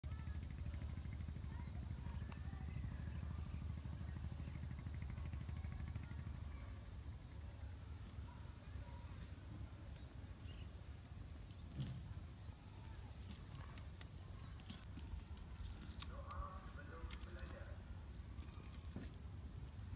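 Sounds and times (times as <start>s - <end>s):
high-pitched insect chorus: 0.0s - 19.9s.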